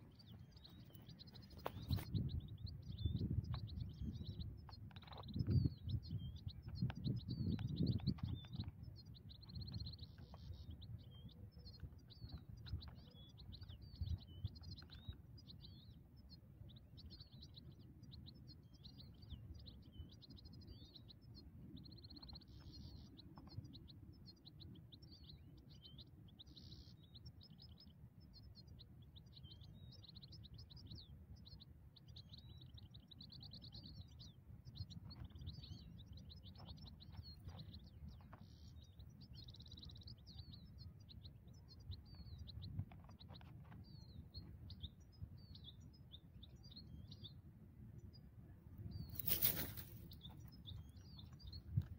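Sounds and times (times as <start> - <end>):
finches twittering: 0.0 - 51.9.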